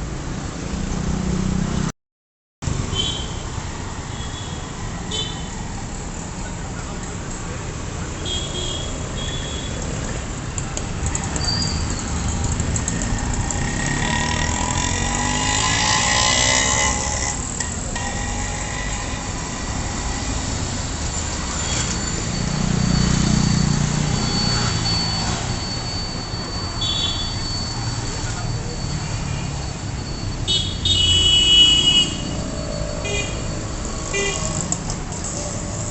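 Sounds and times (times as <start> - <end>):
road traffic: 0.0 - 2.0, 2.6 - 35.9.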